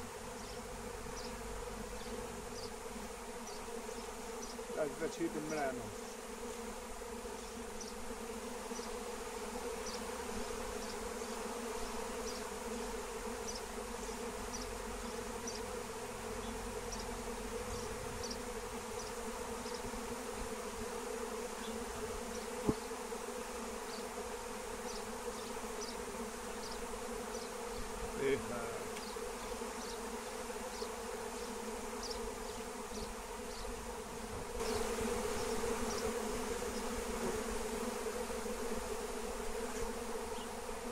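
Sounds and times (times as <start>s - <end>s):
bee swarm buzzing: 0.0s - 40.9s.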